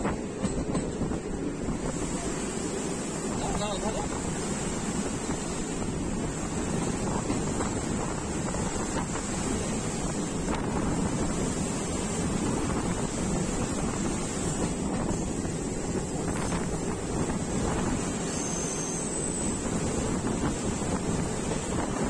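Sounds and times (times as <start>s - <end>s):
train rushing at speed: 0.0s - 22.0s
wind buffeting microphone: 0.0s - 22.0s.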